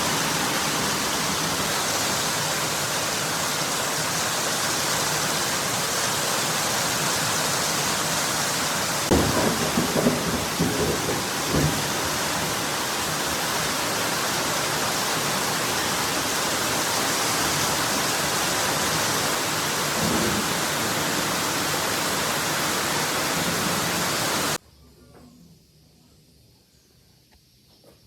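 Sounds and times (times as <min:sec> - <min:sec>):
loud rushing water: 0:00.0 - 0:24.6.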